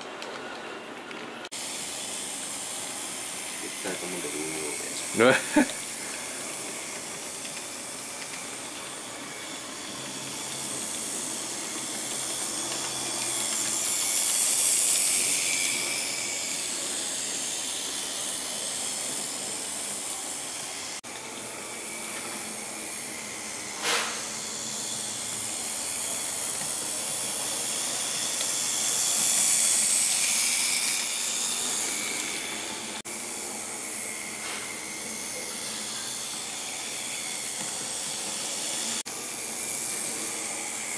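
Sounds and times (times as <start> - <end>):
model train running on track: 0.1 - 40.9.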